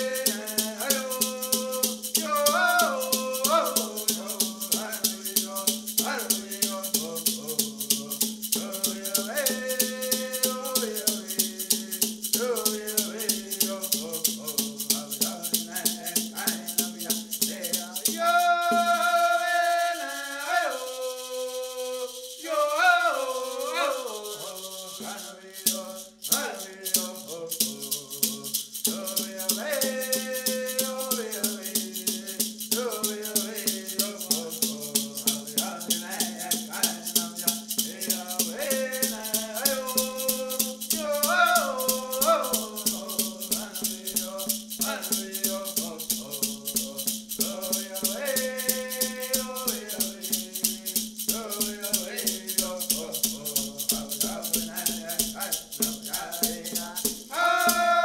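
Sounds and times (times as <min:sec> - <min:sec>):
shaken rattle beat: 0:00.0 - 0:58.0
voices singing: 0:00.0 - 0:58.0.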